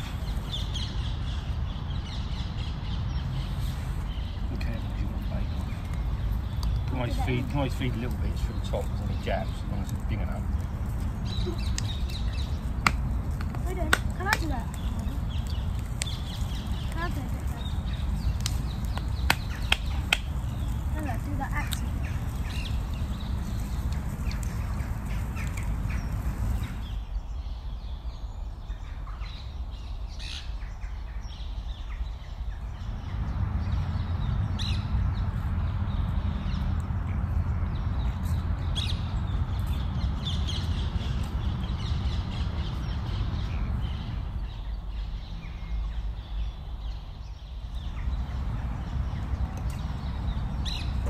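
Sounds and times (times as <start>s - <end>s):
wood fire crackling: 0.0s - 27.4s, 32.4s - 51.0s
birds chirping: 0.0s - 51.0s
low wind rumble on microphone: 0.0s - 51.0s.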